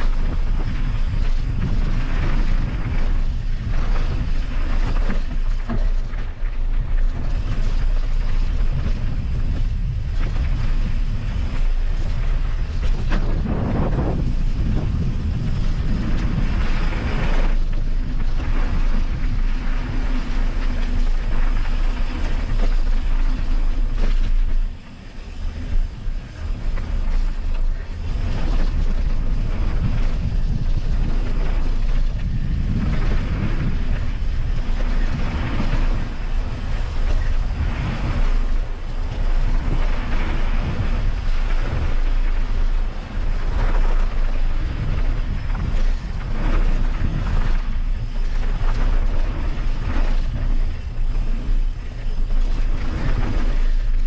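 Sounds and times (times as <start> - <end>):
low rumble: 0.0 - 54.0
wind buffeting microphone: 0.0 - 54.0.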